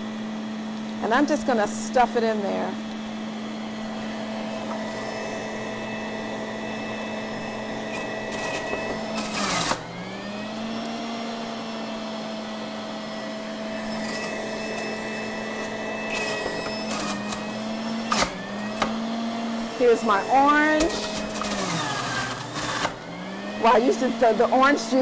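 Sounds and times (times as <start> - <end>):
juicer motor whining: 0.0 - 25.0
lettuce shredding in juicer: 2.8 - 25.0.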